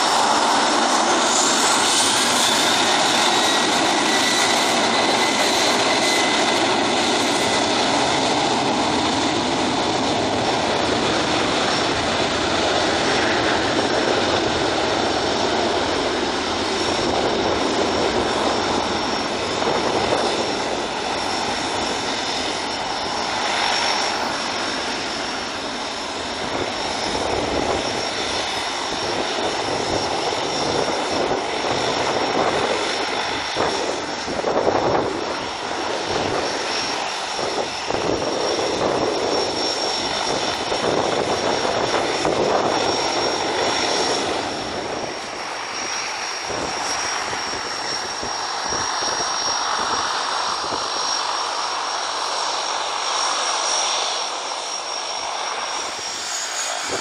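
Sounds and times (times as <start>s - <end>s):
high jet engine whine: 0.0s - 57.0s
jet engines rushing noise: 0.0s - 57.0s.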